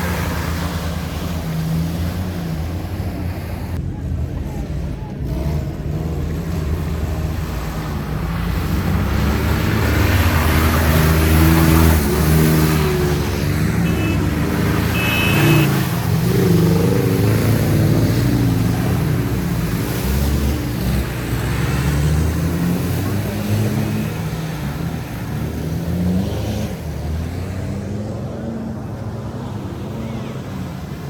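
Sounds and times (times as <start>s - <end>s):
engine revving under load: 4.6s - 31.0s.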